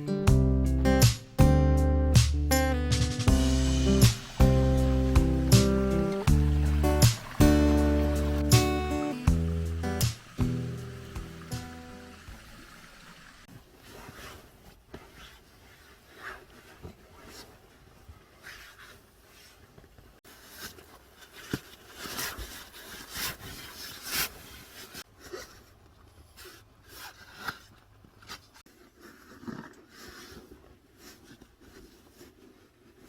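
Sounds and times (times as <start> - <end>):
rubbing and scraping: 2.1 - 19.7, 20.3 - 33.0.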